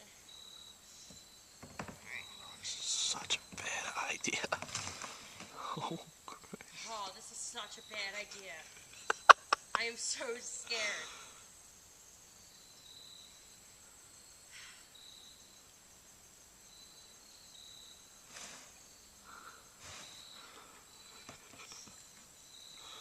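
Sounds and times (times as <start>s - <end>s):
faint high insect chirps: 0.0s - 23.0s.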